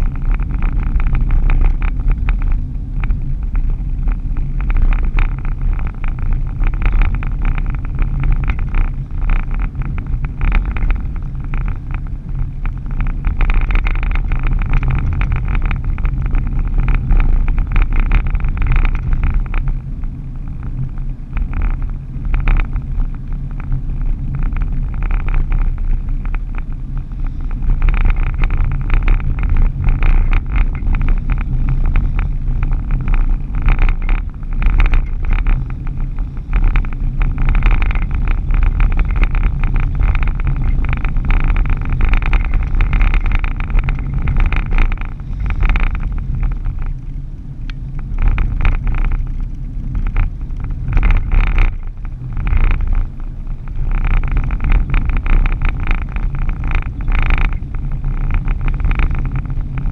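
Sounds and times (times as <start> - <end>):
vehicle engine and tyres cruising: 0.0 - 59.9.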